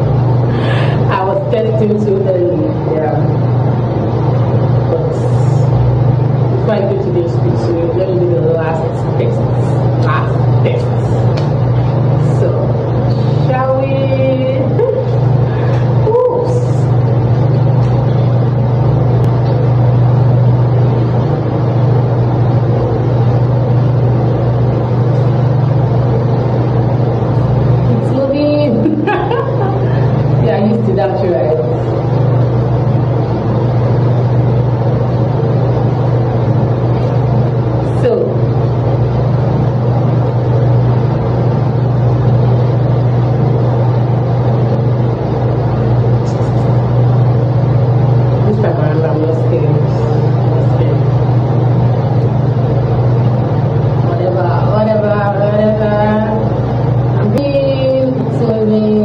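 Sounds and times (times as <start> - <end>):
low mechanical hum: 0.0 - 59.0
vehicle engine drone: 0.0 - 59.0.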